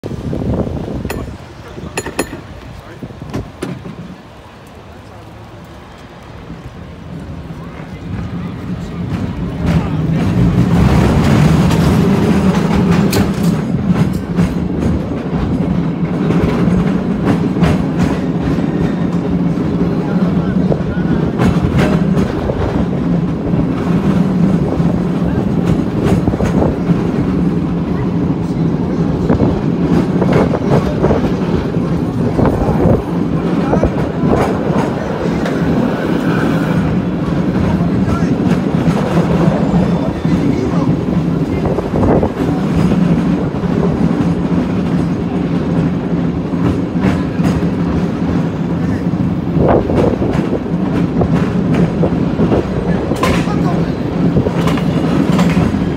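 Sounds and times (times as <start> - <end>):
cable car low hum: 0.0 - 55.9
wheels rumbling on rails: 0.0 - 55.9
cable car clicks and clacks: 0.9 - 55.9.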